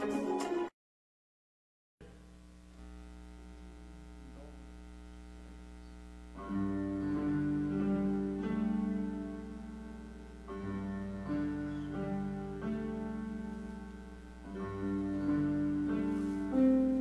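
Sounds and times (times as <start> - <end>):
ensemble playing soft held chords: 2.8 - 17.0.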